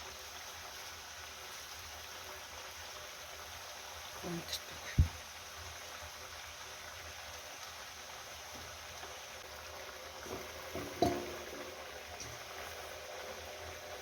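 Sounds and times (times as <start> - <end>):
pot of food simmering: 0.0 - 14.0.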